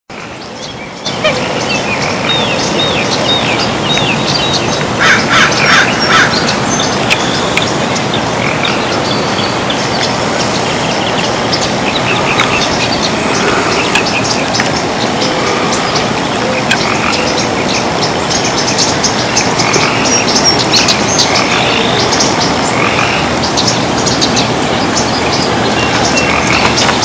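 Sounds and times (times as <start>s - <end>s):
birds chirping: 0.1s - 27.0s.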